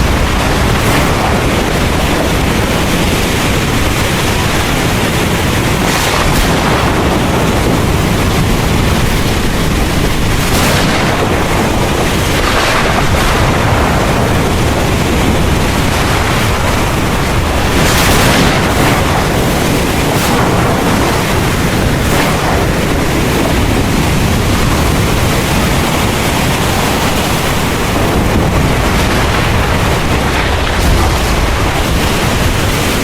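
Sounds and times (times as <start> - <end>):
heavy rain pouring: 0.0 - 33.0
low rumble of thunder: 0.0 - 33.0
wind: 0.0 - 33.0.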